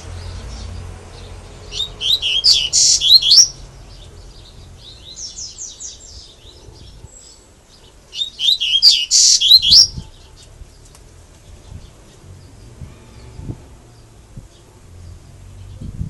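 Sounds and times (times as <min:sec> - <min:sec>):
bird singing chirps and trills: 0:00.0 - 0:16.0.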